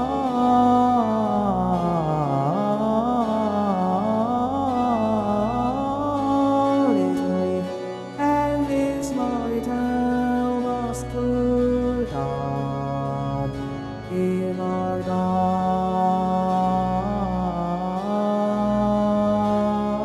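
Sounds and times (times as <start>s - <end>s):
synthetic baritone voice singing: 0.0s - 20.0s.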